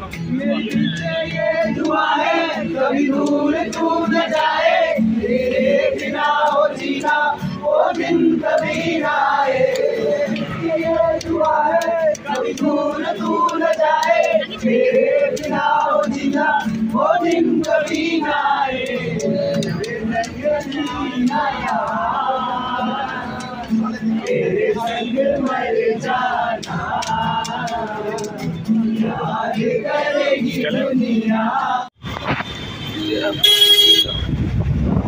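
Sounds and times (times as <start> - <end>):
crowd singing: 0.0 - 32.0.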